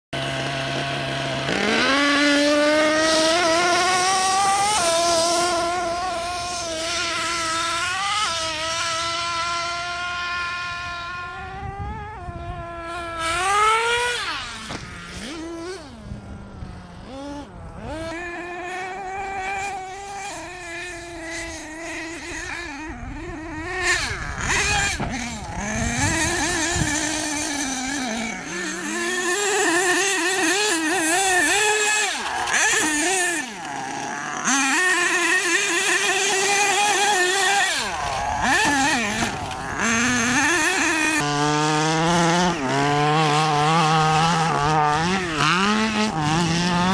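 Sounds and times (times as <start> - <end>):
small two-stroke engines revving: 0.2 - 46.9.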